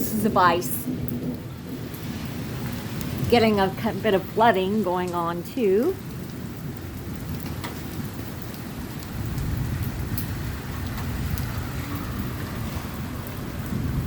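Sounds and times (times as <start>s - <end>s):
heavy rain pouring: 0.0s - 14.0s
low rumble of thunder: 0.0s - 14.0s.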